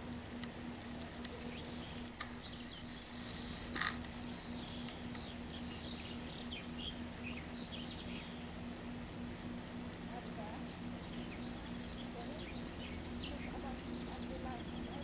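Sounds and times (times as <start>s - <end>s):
faint low hum: 0.0s - 15.0s
small birds chirping: 0.0s - 15.0s.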